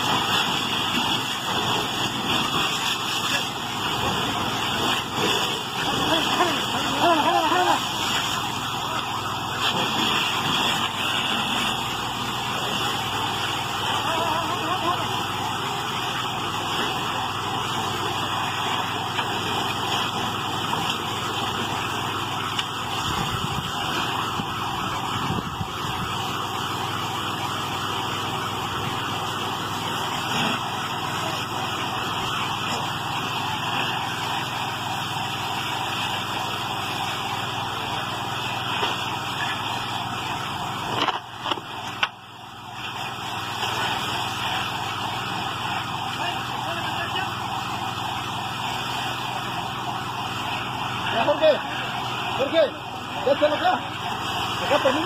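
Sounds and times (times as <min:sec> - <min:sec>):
ambulance siren: 0:00.0 - 0:55.0.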